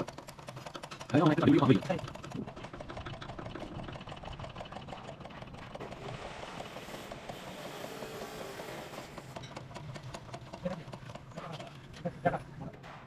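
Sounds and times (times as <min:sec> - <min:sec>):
steady machine noise: 0:00.0 - 0:13.0.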